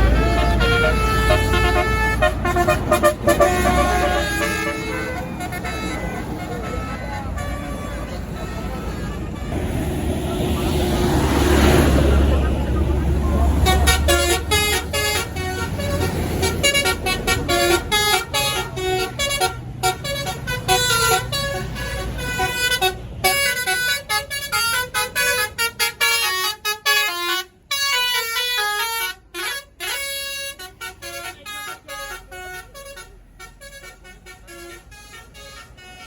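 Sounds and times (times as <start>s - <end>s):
musical bus horn tune: 0.0s - 9.8s, 13.3s - 36.0s
low bus rumble: 0.0s - 36.0s.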